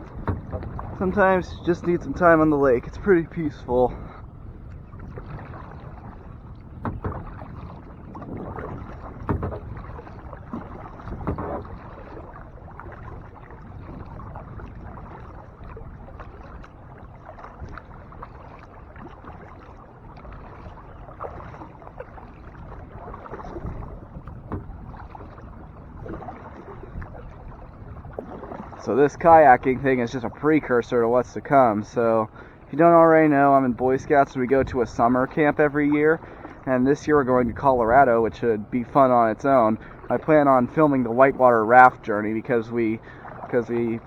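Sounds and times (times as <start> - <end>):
paddle splashing in water: 0.0 - 44.0
steady watery wash: 0.0 - 44.0.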